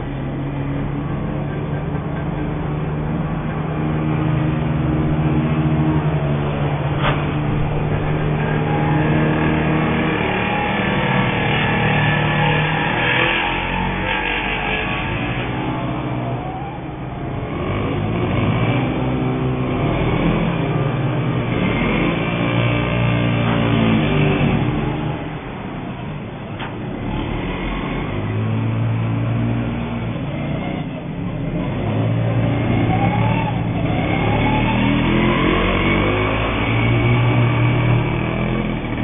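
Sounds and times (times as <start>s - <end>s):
small two-stroke engines revving: 0.0s - 25.6s, 27.0s - 39.0s.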